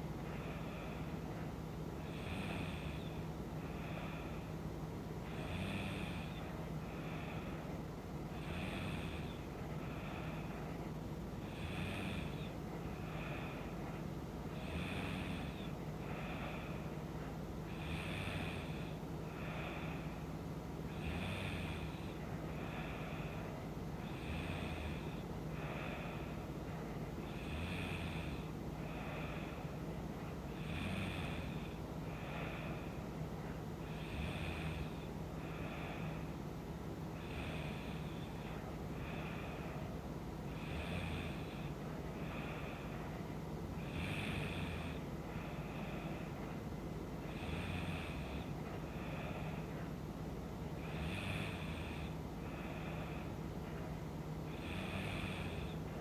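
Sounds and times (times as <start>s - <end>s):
steady low hum: 0.0s - 56.0s
woman snoring: 2.0s - 4.5s, 5.2s - 7.7s, 8.3s - 10.8s, 11.4s - 17.0s, 17.7s - 20.2s, 20.9s - 36.4s, 37.2s - 39.9s, 40.5s - 43.0s, 43.7s - 46.3s, 47.2s - 49.8s, 50.7s - 56.0s.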